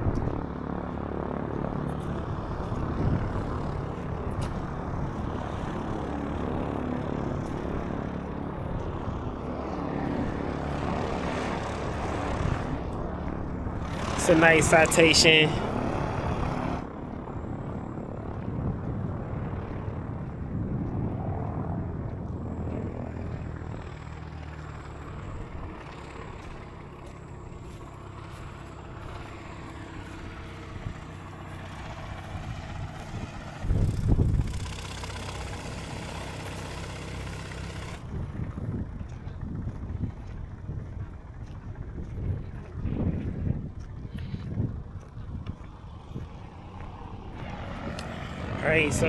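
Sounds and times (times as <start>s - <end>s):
engine drone: 0.0s - 49.0s.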